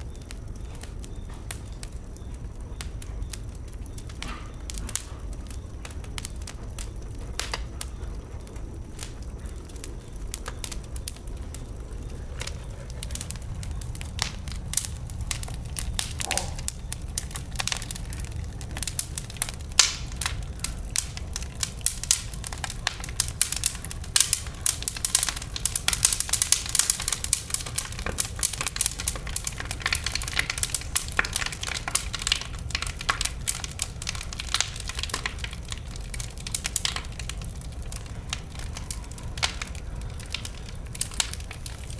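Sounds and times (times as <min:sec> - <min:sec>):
bonfire crackling and popping: 0:00.0 - 0:41.9
low steady rumble: 0:00.0 - 0:41.9.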